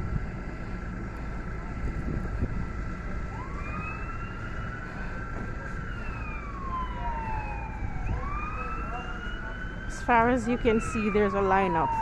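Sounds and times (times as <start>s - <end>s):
emergency vehicle siren wailing: 0.0s - 12.0s
steady low rumble: 0.0s - 12.0s.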